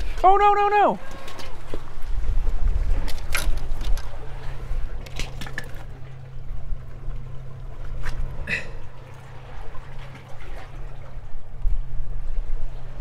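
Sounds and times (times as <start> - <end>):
water sloshing among rocks: 0.0 - 13.0
wind rumble on microphone: 0.0 - 13.0.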